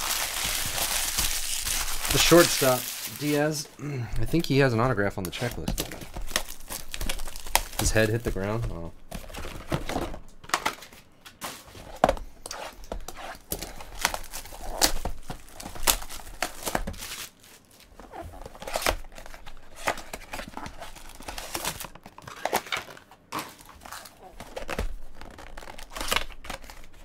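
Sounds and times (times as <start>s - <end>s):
plastic wrap crinkling and tearing: 0.0s - 3.6s, 4.2s - 11.0s, 13.1s - 27.0s.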